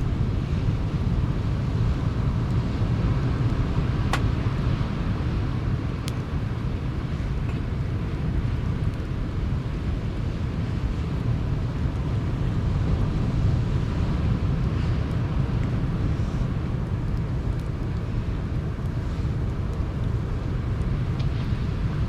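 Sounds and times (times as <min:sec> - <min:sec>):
faint campfire crackles: 0:00.0 - 0:22.0
wind: 0:00.0 - 0:22.0.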